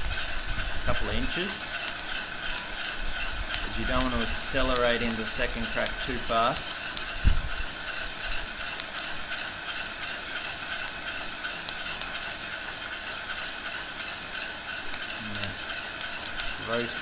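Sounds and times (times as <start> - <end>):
heat gun blowing: 0.0 - 16.9
coffee beans cracking: 0.0 - 17.0
metal spoon stirring beans: 0.0 - 17.0.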